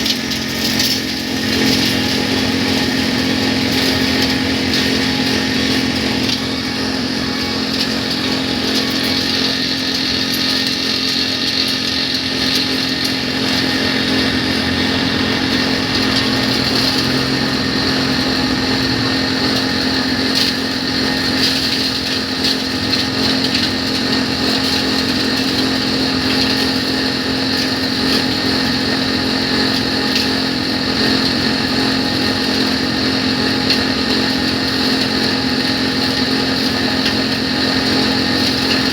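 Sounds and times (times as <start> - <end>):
small engine running with whine: 0.0 - 38.9.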